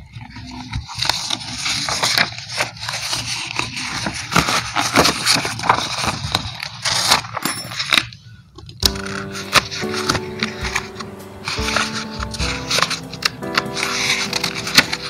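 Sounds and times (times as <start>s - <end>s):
paper sheets rustling and scraping: 0.0s - 8.1s, 8.9s - 15.0s.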